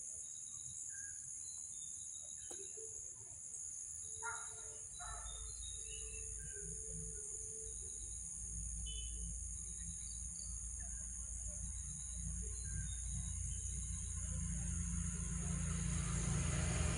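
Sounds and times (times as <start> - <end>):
insects trilling: 0.0 - 16.9.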